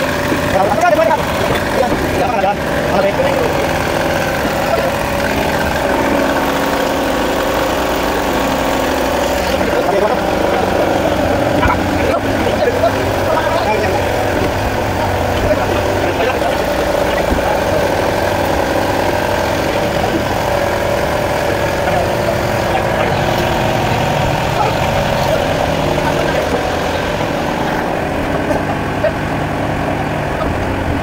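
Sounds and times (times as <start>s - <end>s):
motor boat engine drone: 0.0s - 31.0s.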